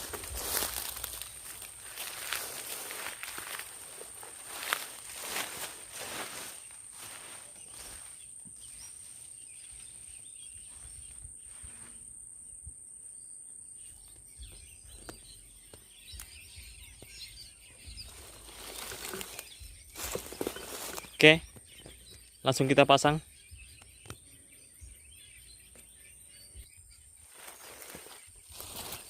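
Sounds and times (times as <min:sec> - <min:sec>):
faint bird chirps: 0:00.0 - 0:12.1, 0:13.0 - 0:29.0.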